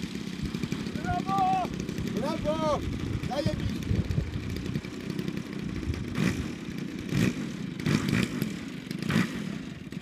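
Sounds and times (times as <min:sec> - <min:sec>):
model plane engine running: 0:00.0 - 0:10.0.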